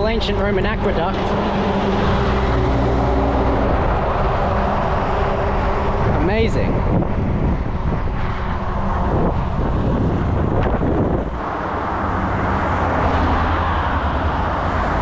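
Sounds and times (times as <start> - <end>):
low engine hum: 0.0 - 15.0
road traffic noise: 0.0 - 15.0
wind on microphone: 0.0 - 15.0.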